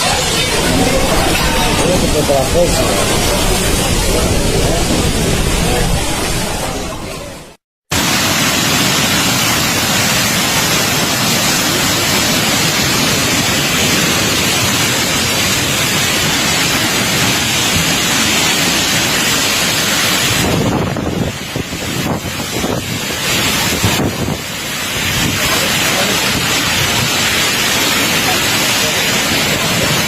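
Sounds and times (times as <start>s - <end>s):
loud steady rushing noise: 0.0s - 30.0s.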